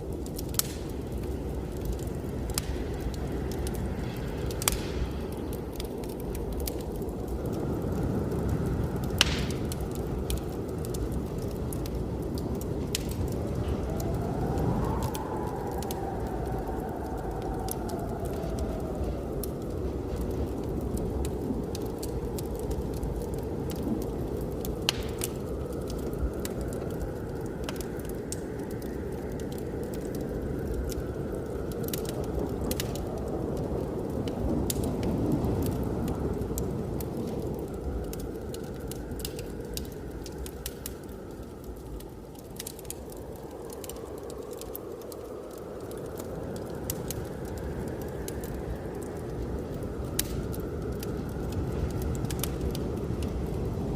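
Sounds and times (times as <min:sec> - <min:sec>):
blizzard wind whistling: 0:00.0 - 0:53.9
wood fire crackling and snapping: 0:00.0 - 0:53.9.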